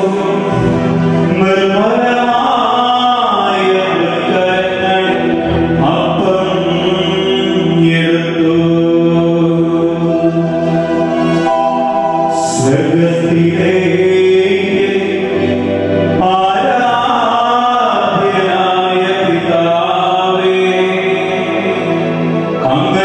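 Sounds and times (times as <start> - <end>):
man chanting into a microphone: 0.0 - 10.6, 11.5 - 23.0.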